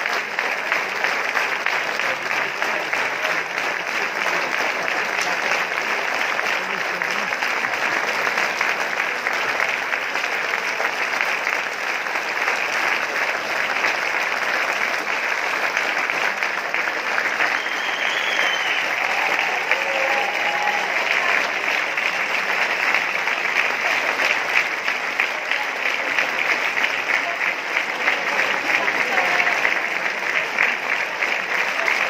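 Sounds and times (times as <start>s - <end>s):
audience applause: 0.0s - 32.0s.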